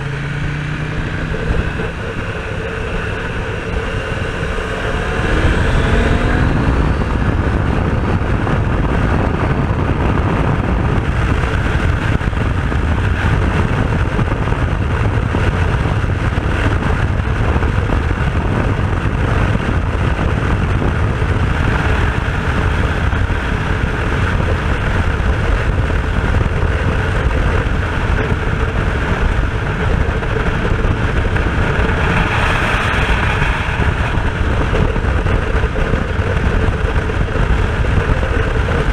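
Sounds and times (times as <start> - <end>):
motorcycle engine revving: 0.0 - 38.9
wind buffeting on microphone: 0.0 - 38.9.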